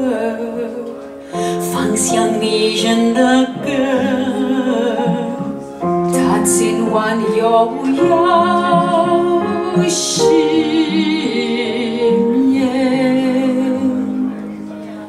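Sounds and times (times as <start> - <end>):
sustained musical accompaniment: 0.0 - 15.0.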